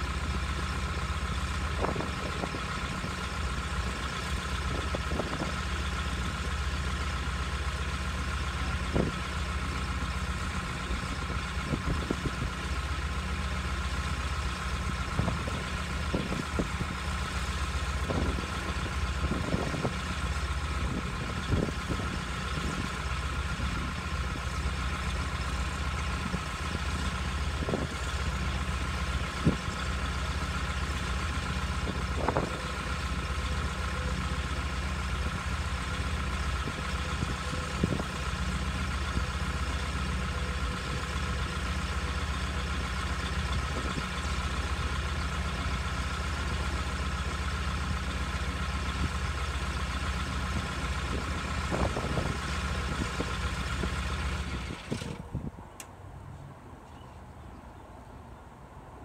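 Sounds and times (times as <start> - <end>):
heavy engine idling: 0.0 - 55.5.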